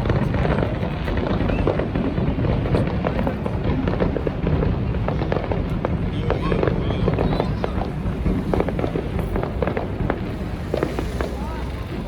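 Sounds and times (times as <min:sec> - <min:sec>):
fireworks crackling pops: 0:00.0 - 0:12.0
fireworks rumbling bursts: 0:00.0 - 0:12.0.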